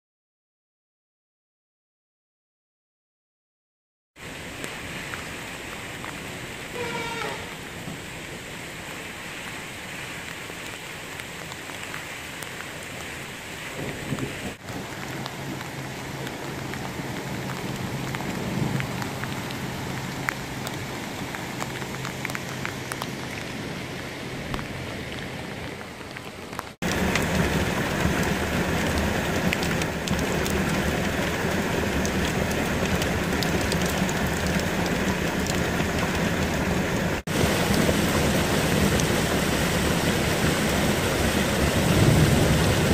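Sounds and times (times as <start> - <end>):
steady rain falling: 4.2 - 42.9.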